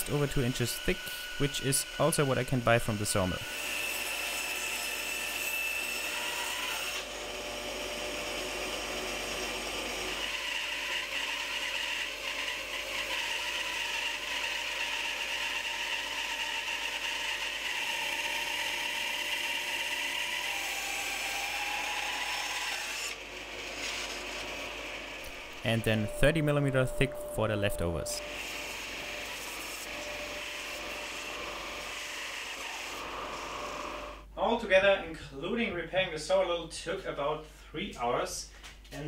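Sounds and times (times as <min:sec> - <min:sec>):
bandsaw cutting log: 0:00.0 - 0:26.8, 0:27.8 - 0:34.2.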